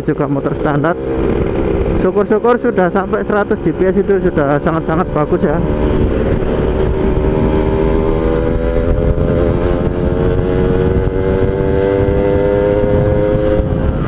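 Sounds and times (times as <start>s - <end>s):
two-stroke motorcycle engine: 0.0s - 14.0s
wind rumble on microphone: 0.0s - 14.0s.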